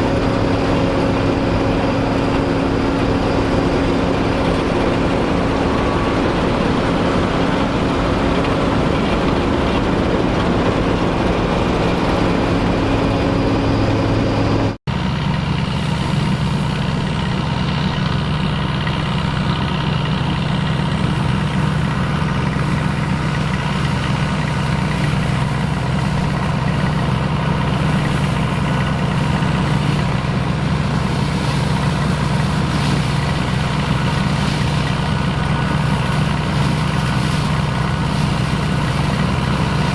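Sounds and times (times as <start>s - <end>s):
engine low steady hum: 0.0s - 39.9s
farm machinery engines running: 0.0s - 39.9s.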